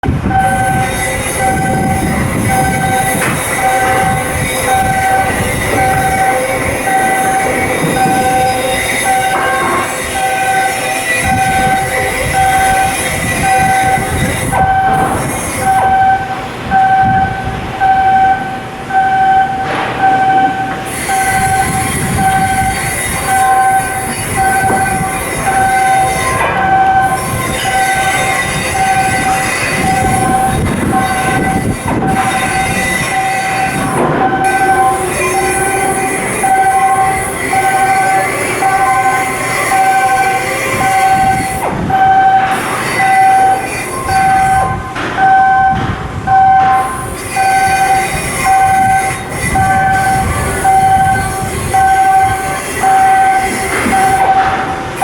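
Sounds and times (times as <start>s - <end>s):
machinery knocks: 0.0s - 17.4s, 19.6s - 55.0s
electronic warning beeper: 0.0s - 55.0s
machinery noise: 0.0s - 55.0s.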